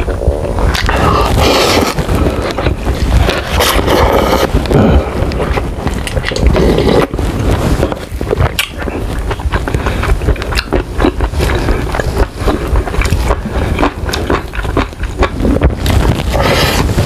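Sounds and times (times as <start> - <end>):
low microphone rumble: 0.0 - 17.0
wet chewing and mouth clicks: 0.0 - 17.0.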